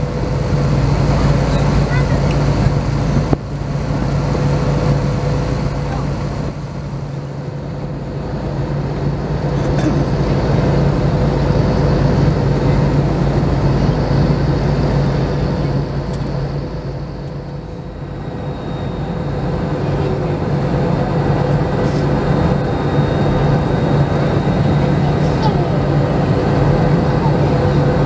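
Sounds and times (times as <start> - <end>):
airflow rush in plane cabin: 0.0 - 28.0
low jet engine hum: 0.0 - 28.0.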